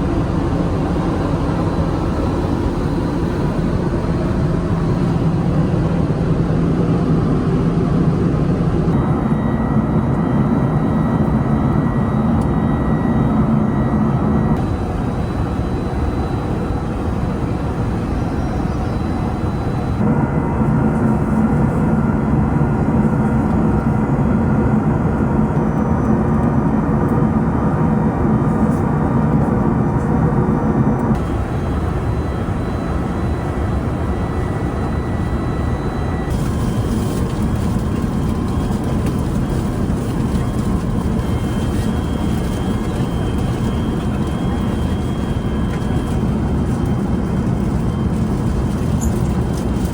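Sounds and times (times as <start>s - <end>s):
jet engine roar in cabin: 0.0s - 49.9s.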